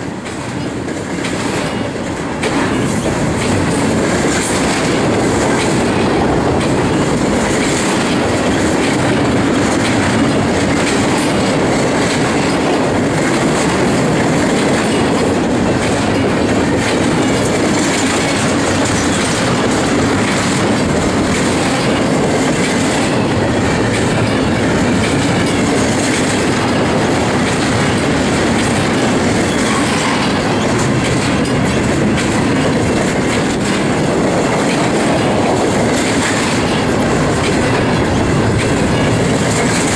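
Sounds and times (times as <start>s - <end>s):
train wheels rumbling on rail: 0.0s - 39.9s
wheels clickety-clack on rail joints: 0.0s - 39.9s.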